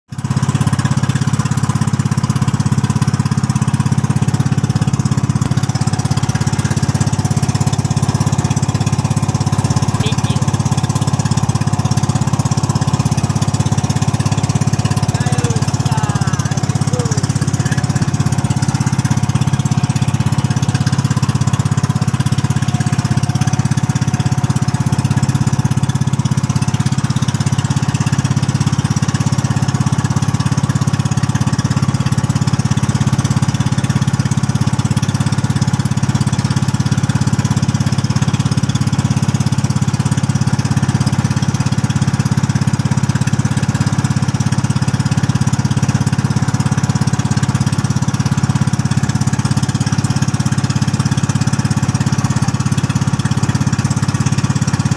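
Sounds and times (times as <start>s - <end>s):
boat engine droning: 0.4s - 42.2s, 43.2s - 54.9s.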